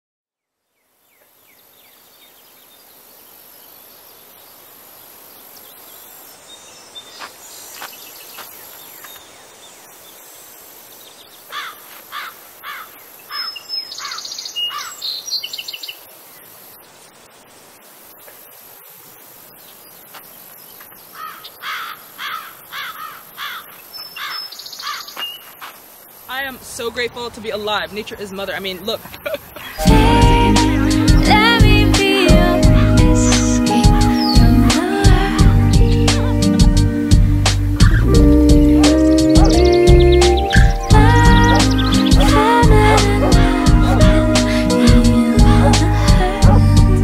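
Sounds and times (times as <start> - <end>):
birds chirping busily: 0.7 - 47.0
birdsong: 0.8 - 10.3, 10.9 - 17.1, 19.4 - 47.0.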